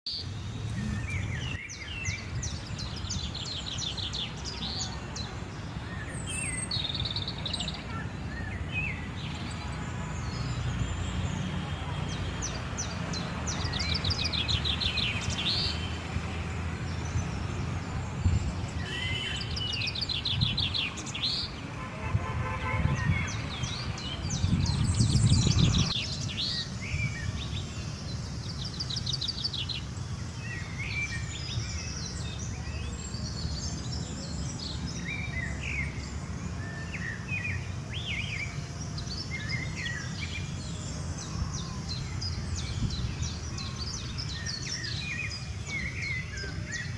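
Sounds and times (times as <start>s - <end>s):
birds chirping and trilling: 0.1s - 46.9s.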